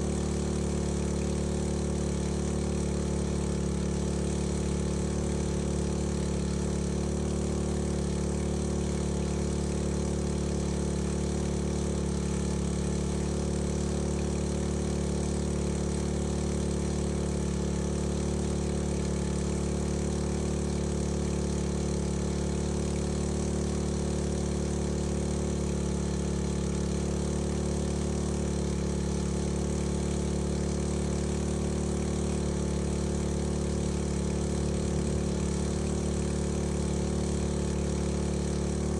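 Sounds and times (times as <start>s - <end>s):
small petrol engine droning: 0.0s - 38.9s.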